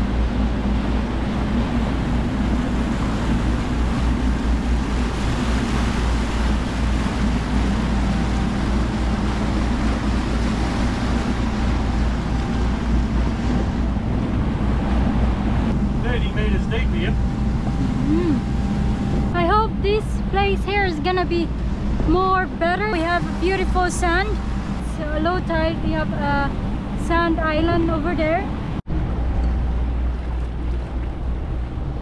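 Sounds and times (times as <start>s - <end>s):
boat engine drone: 0.0s - 32.0s
water rushing past hulls: 0.0s - 32.0s.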